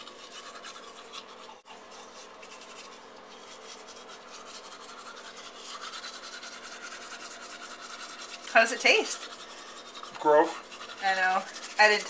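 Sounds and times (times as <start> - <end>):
toothbrush scrubbing teeth: 0.0 - 12.0.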